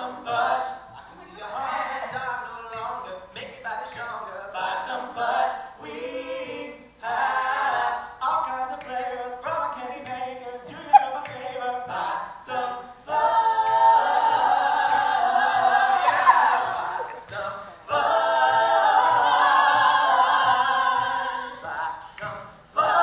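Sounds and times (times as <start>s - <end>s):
group singing a cappella: 0.0s - 23.0s.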